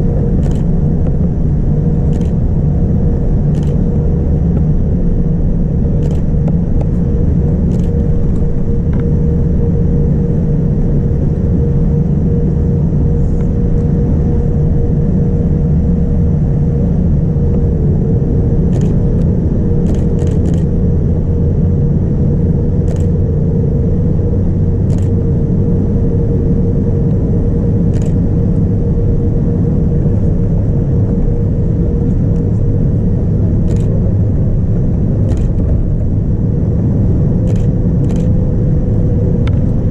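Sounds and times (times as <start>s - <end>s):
airliner cabin roar: 0.0s - 39.9s.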